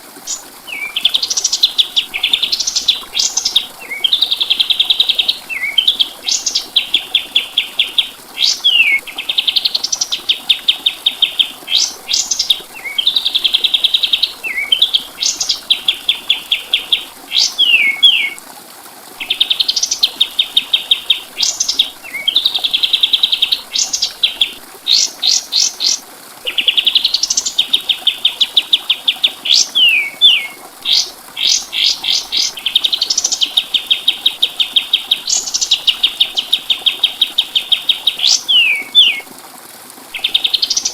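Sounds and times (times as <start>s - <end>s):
songbird singing trills and whistles: 0.3s - 18.4s, 19.2s - 39.3s, 40.2s - 40.9s.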